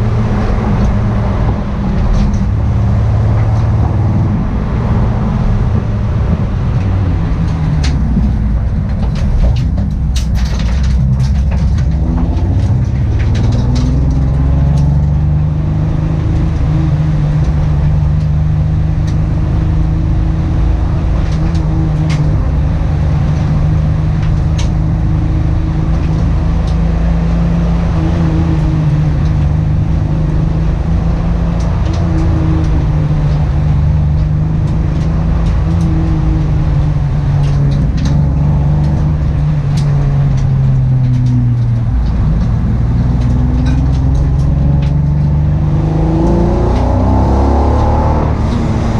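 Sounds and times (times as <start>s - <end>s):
misfiring car engine: 0.0s - 48.9s.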